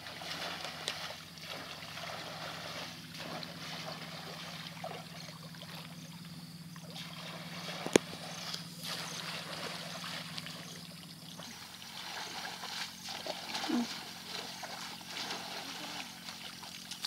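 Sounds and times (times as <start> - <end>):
low hum: 0.0 - 17.0
muddy water splashing: 0.0 - 17.0.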